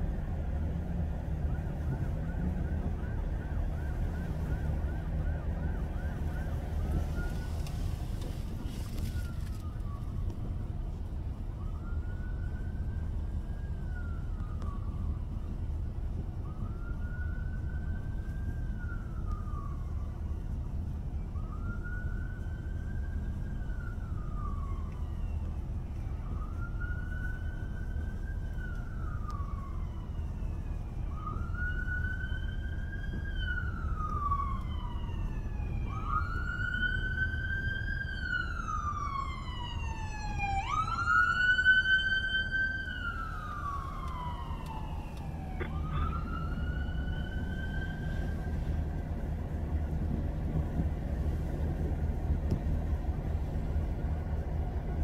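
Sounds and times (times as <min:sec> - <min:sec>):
emergency siren wailing: 0:00.0 - 0:55.0.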